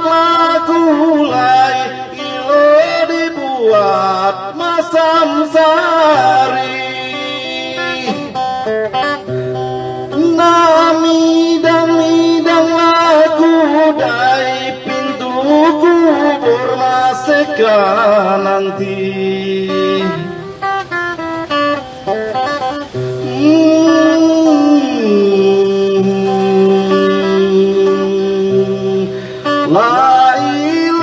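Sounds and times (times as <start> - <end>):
man singing devotional chant: 0.0 - 8.4, 10.2 - 20.4, 23.2 - 31.0
instrumental accompaniment: 0.0 - 31.0.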